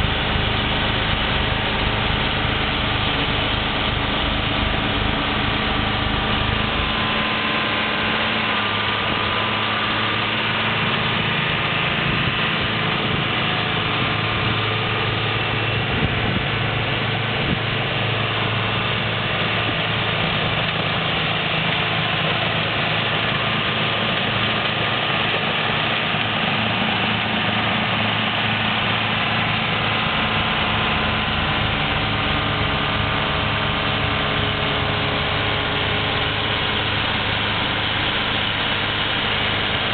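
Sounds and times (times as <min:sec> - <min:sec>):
snowblower clearing snow: 0:00.0 - 0:39.9
tractor diesel engine running: 0:00.0 - 0:39.9.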